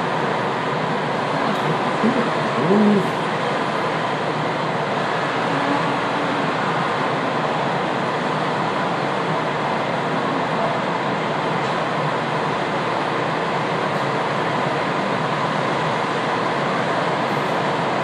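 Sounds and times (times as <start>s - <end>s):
electric train humming and hissing: 0.0s - 18.0s.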